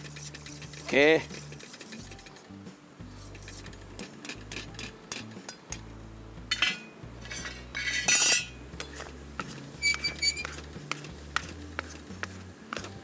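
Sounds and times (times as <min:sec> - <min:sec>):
utensil scraping metal pan: 0:00.0 - 0:02.4, 0:03.2 - 0:05.6, 0:06.5 - 0:13.0.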